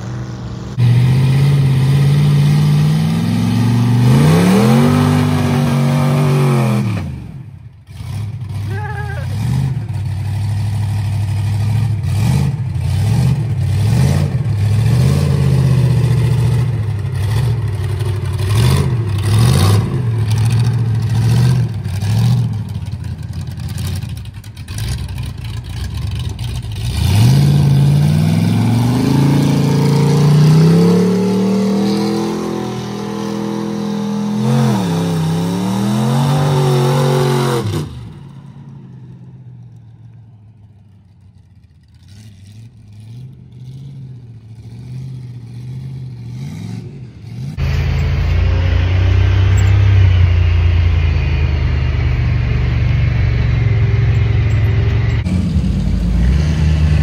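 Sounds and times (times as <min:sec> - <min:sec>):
mud truck engine revving: 0:00.0 - 0:39.1, 0:42.0 - 0:57.0.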